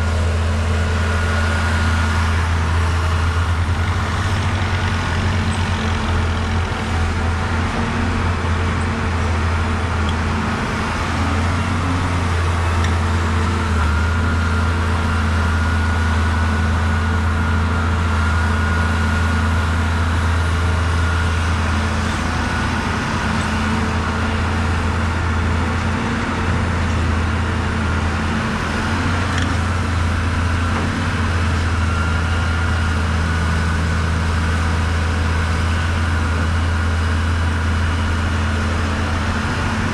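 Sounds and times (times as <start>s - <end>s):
excavator diesel engine drone: 0.0s - 39.9s.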